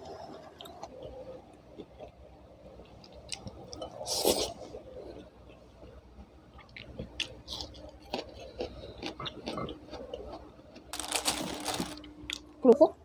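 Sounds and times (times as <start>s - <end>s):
person chewing food: 0.0s - 12.5s.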